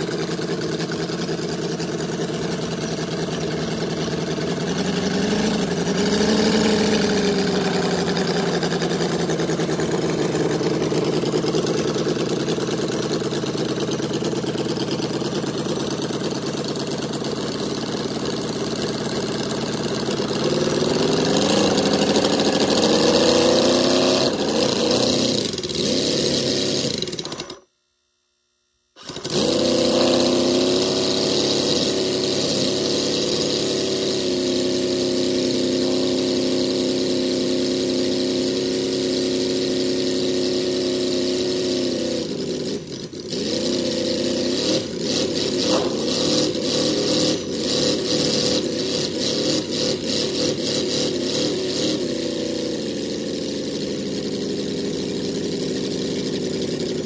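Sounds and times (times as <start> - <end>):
model engine running: 0.0 - 27.6, 29.0 - 57.0.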